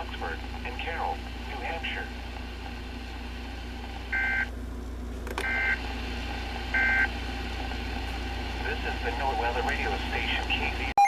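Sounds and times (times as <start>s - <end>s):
radio hum and hiss: 0.0s - 4.5s, 5.2s - 11.0s.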